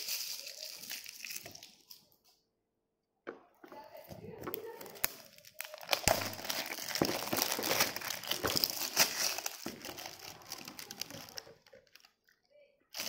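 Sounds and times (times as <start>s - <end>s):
plastic wrapping crinkling: 0.0s - 2.3s, 3.8s - 13.0s.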